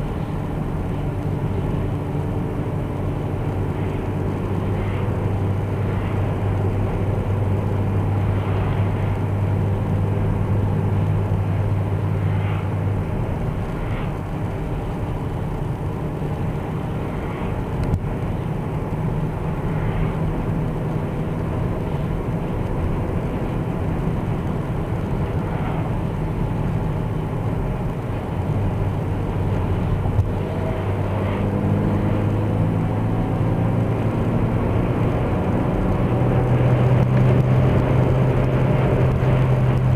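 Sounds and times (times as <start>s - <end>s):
low droning hum: 0.0s - 39.9s
road and wind noise: 0.0s - 39.9s.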